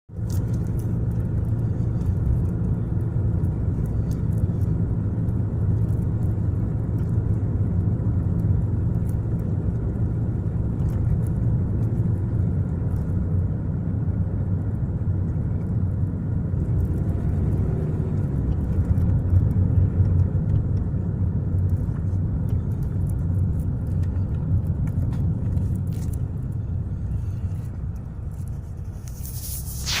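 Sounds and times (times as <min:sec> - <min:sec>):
car engine and road noise: 0:00.1 - 0:30.0.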